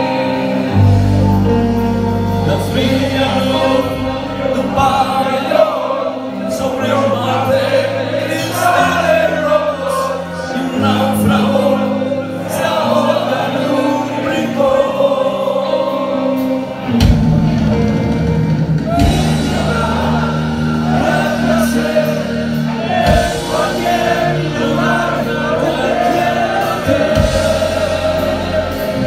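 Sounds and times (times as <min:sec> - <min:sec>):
live rock band: 0:00.0 - 0:29.0.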